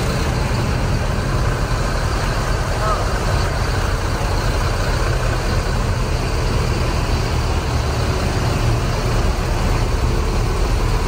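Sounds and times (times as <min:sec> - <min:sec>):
diesel bus engines idling: 0:00.0 - 0:11.0.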